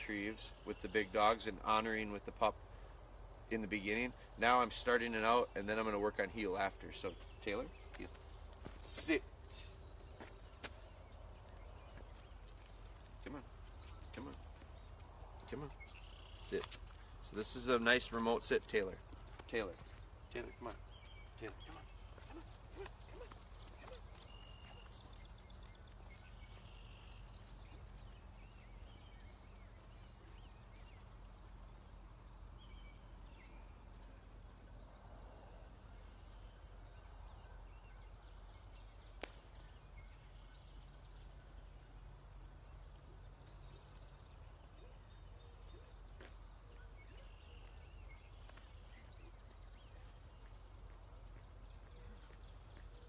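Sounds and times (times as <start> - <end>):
distant bird calls: 5.1 - 53.0.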